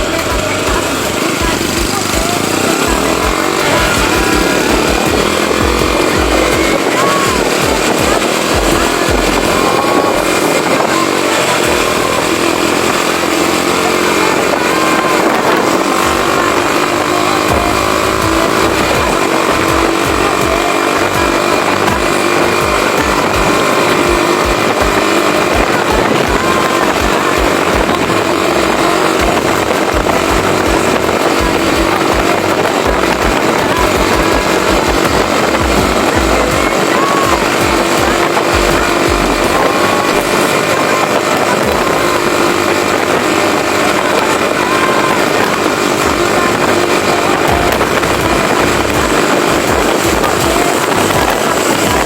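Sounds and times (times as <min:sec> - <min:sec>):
motorcycle engine: 0:00.0 - 0:52.0
music playing: 0:00.0 - 0:52.0
wind rushing over microphone: 0:00.0 - 0:52.0.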